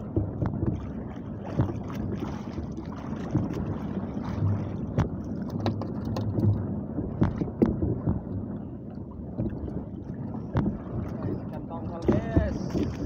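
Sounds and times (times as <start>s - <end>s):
sharp knocks on boat: 0.0s - 8.4s, 10.4s - 13.0s
water sloshing against boat hull: 0.0s - 13.0s
wind buffeting microphone: 0.0s - 13.0s.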